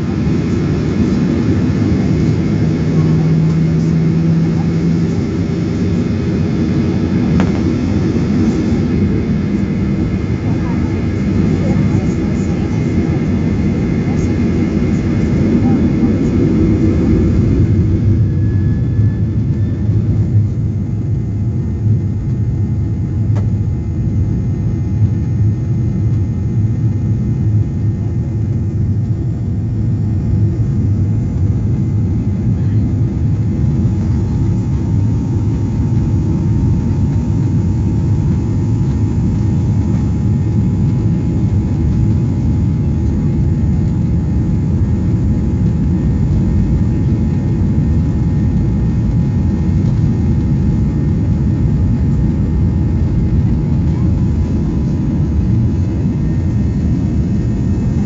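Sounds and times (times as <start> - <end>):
faint steady whine: 0.0 - 58.0
jet engines low rumble: 0.0 - 58.0.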